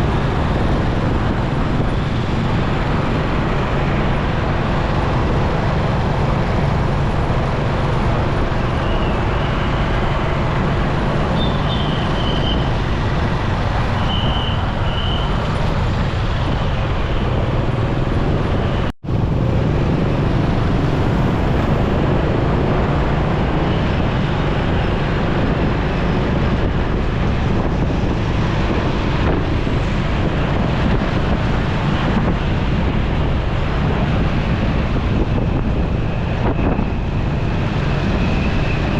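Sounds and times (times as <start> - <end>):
motorcycle road noise: 0.0 - 38.9
traffic vehicles: 0.0 - 38.9
wind noise: 0.0 - 38.9.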